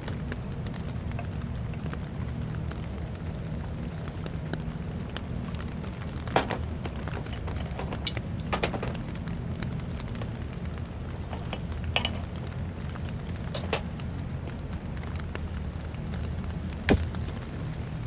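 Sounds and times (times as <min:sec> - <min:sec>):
steady low rain: 0:00.0 - 0:18.0.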